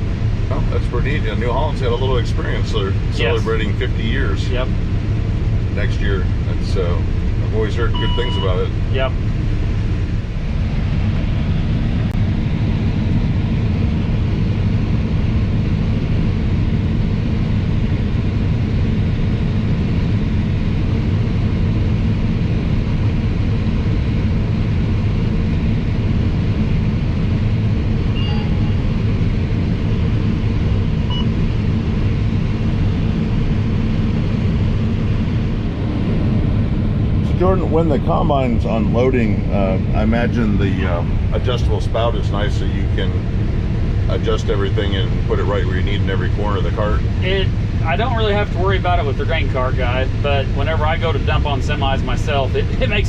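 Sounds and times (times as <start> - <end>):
combine harvester drone: 0.0 - 53.0.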